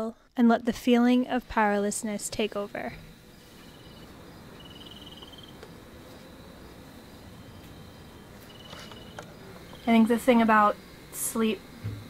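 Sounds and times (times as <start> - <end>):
cricket trilling: 0.2 - 12.0.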